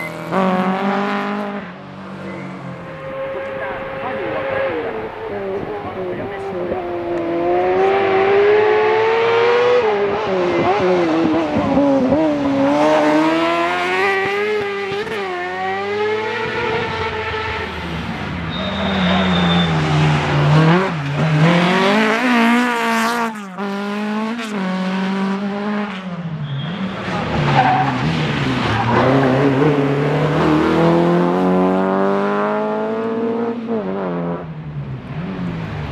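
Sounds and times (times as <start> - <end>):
rally car engine revving: 0.0 - 35.9.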